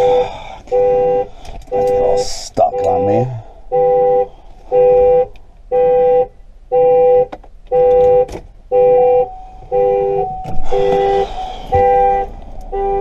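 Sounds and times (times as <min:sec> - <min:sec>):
car horn honking: 0:00.0 - 0:13.0.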